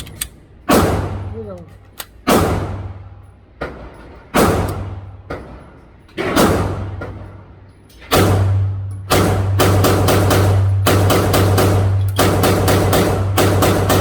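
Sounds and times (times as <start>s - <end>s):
pistol shots echoing: 0.6s - 1.3s, 2.1s - 5.6s, 6.2s - 7.4s, 8.1s - 14.0s.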